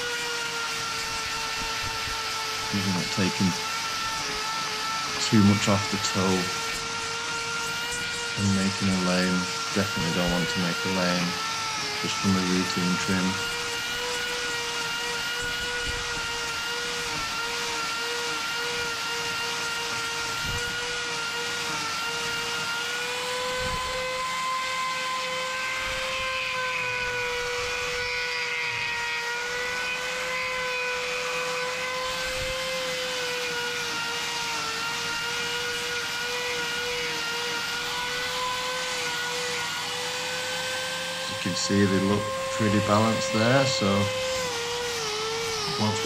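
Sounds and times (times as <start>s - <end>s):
angle grinder whining: 0.0s - 46.0s.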